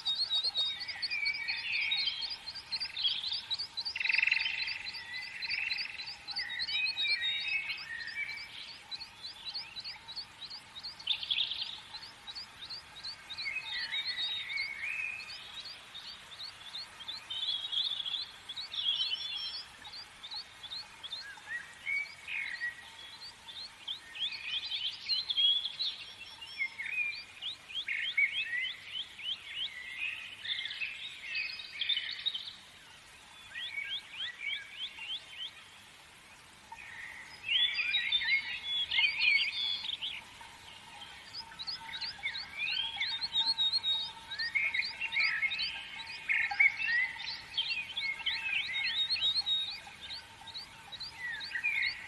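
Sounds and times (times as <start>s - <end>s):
songbirds singing and chirping: 0.0s - 52.0s.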